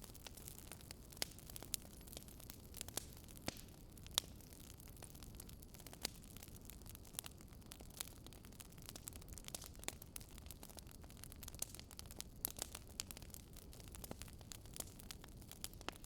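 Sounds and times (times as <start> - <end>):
low rumble of fire: 0.0 - 16.0.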